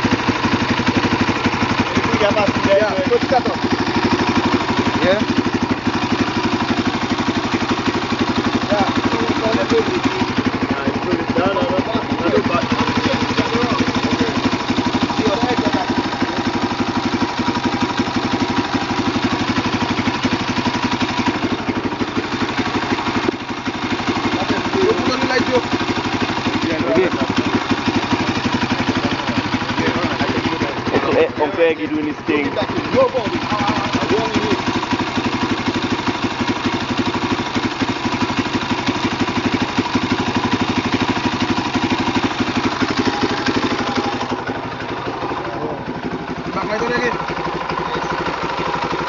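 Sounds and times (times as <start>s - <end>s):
motorcycle engine idling: 0.0s - 49.0s.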